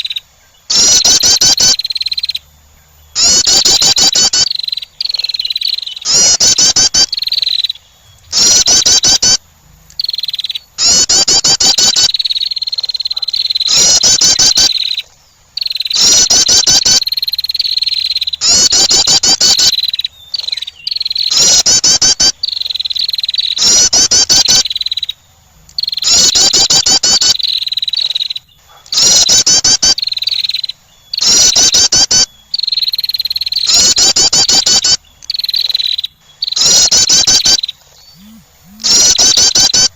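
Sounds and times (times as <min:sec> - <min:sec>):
wren song: 0:00.0 - 0:39.9.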